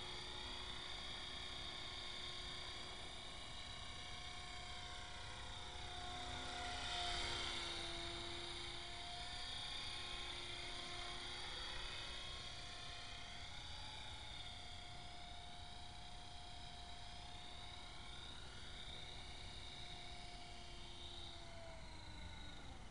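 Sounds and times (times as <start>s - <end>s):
rc helicopter rotor whirring: 0.0s - 22.9s.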